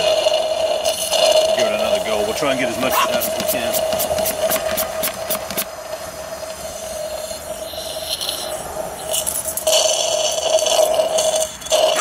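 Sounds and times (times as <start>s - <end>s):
oil hissing and slurping through tube: 0.0s - 12.0s.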